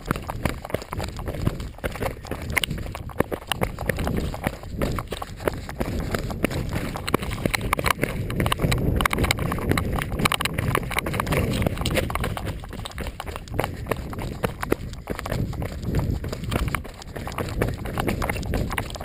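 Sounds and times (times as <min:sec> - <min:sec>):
running footsteps on stony trail: 0:00.0 - 0:19.0.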